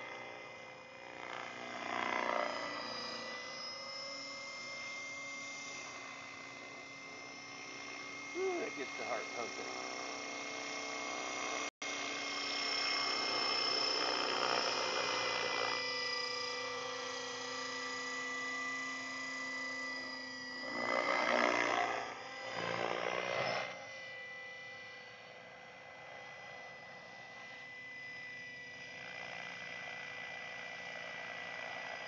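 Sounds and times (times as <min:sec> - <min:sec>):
model helicopter motor whine: 0:00.0 - 0:32.0.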